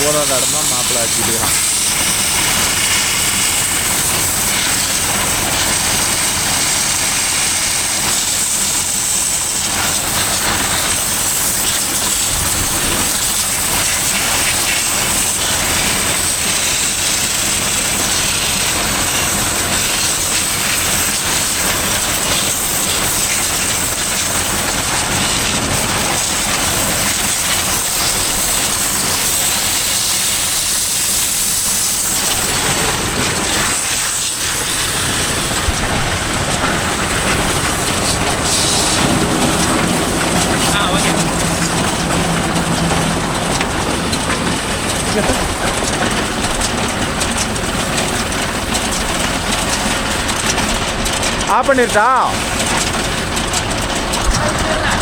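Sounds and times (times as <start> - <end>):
engine running: 0.0 - 55.0
water jet spraying: 0.0 - 55.0.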